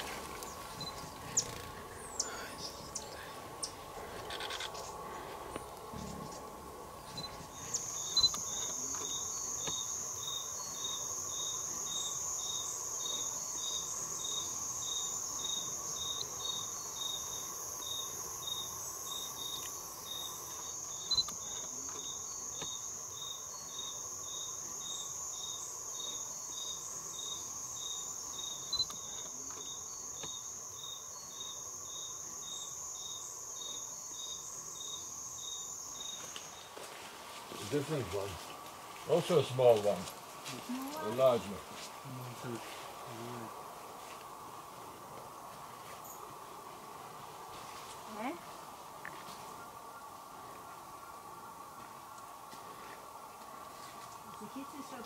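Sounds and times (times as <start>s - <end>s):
insects buzzing: 0.0s - 55.0s
pulsing insect call: 0.0s - 55.0s.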